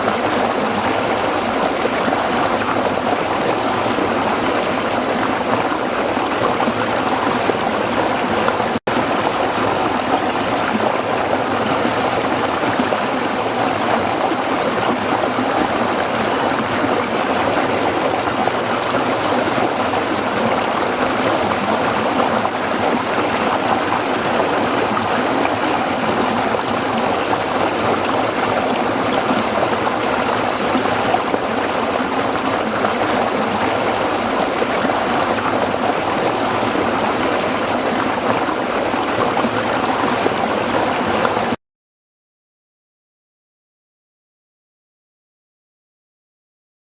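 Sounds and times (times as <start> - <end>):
waterfall rushing and splashing: 0.0 - 41.6.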